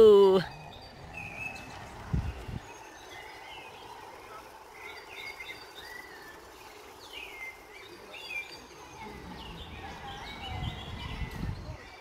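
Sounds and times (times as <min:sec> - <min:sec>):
birds chirping and singing: 0:00.0 - 0:12.0.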